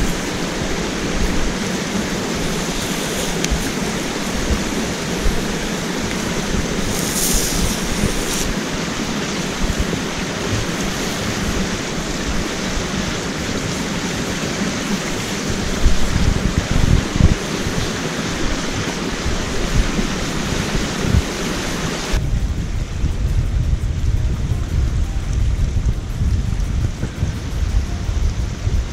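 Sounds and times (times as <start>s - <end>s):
mountain stream rushing: 0.0s - 28.9s
wind buffeting microphone: 0.0s - 28.9s.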